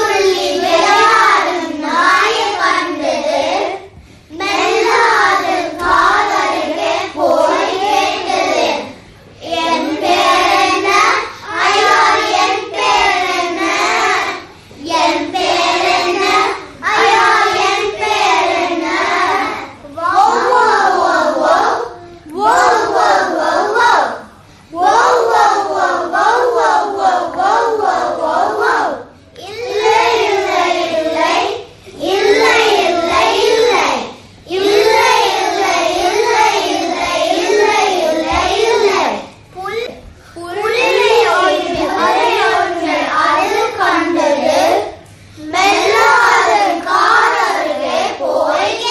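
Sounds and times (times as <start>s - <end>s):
children singing: 0.0s - 39.8s, 40.4s - 48.9s.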